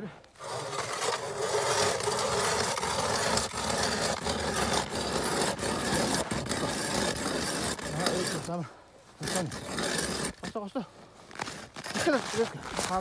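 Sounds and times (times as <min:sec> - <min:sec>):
ice auger grinding through ice: 0:00.2 - 0:13.0.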